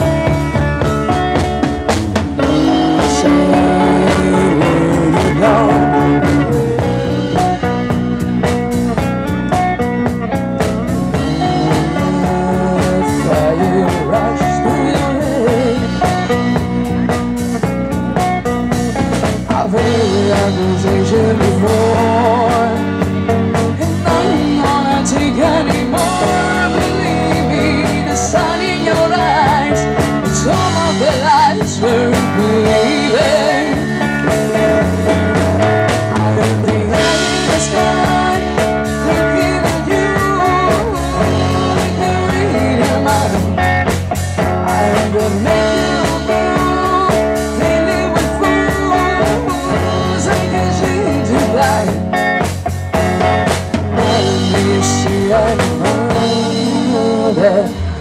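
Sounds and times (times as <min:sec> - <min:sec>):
bass guitar: 0:00.0 - 0:58.0
drum kit beat: 0:00.0 - 0:58.0
electric guitar: 0:00.0 - 0:58.0
woman singing: 0:02.4 - 0:07.6, 0:11.1 - 0:16.8, 0:19.4 - 0:52.4, 0:53.9 - 0:58.0.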